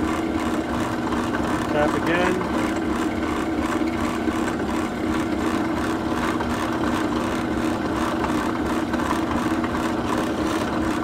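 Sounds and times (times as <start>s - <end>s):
drill press motor humming: 0.0s - 11.0s.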